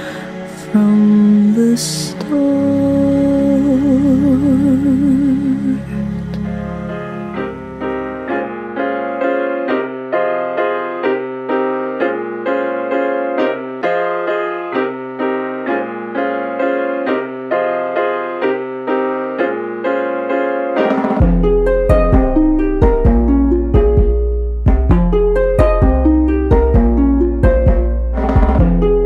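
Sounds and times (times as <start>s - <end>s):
piano playing chords: 0.0s - 29.0s.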